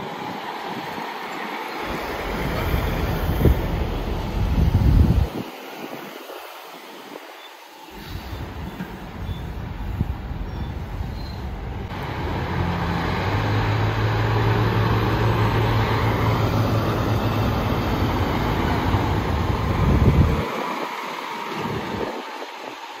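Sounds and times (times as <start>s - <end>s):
truck diesel engines running: 0.0s - 5.4s, 7.9s - 23.0s
tyre and road noise: 0.0s - 23.0s.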